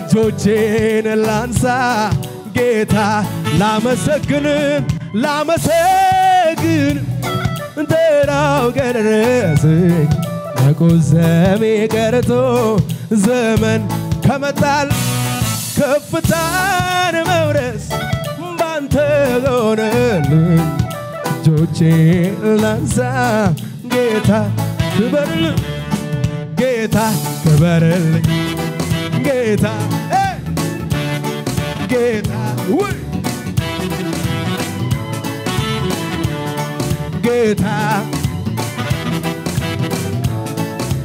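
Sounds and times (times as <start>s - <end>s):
man singing into a microphone: 0.0s - 30.6s, 31.6s - 34.5s, 35.8s - 39.9s
keyboard: 0.0s - 41.0s
steady beat: 0.0s - 41.0s.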